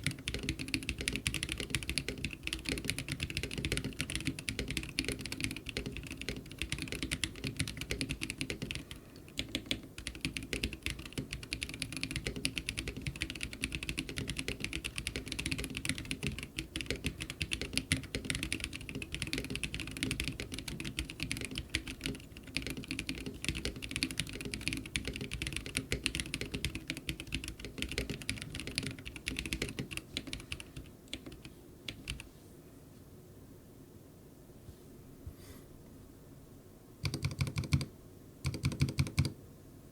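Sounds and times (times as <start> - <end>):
fast mechanical keyboard typing: 0.0 - 32.3, 37.0 - 39.4.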